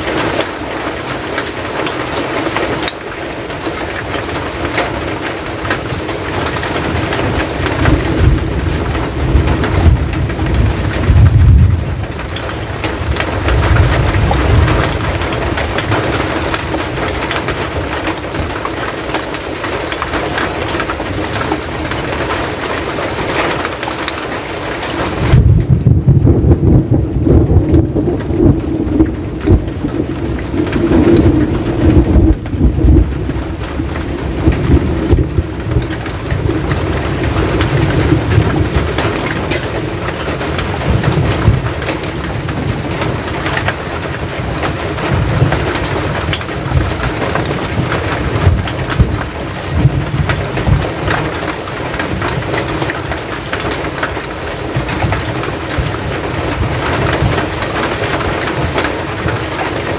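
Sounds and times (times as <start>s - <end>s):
rain on a metal roof: 0.0s - 59.9s.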